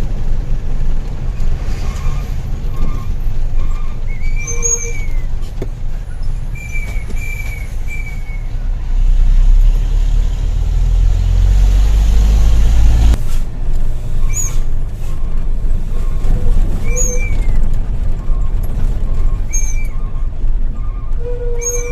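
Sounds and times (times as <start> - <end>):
truck diesel engine rumble: 0.0 - 21.9.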